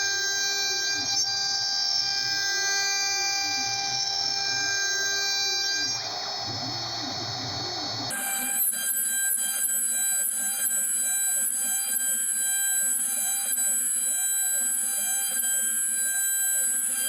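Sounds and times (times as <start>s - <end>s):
cnc router spindle whine: 0.0s - 17.0s.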